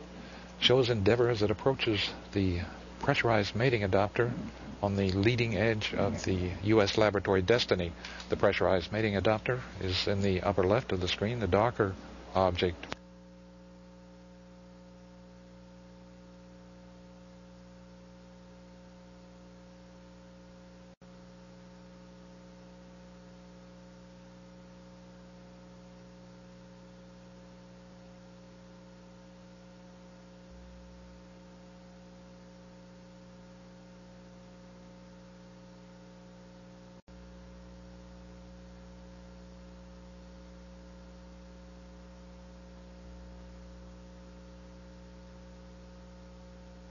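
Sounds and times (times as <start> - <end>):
faint electrical hum: 0.0 - 46.9
low hiss: 0.0 - 46.9.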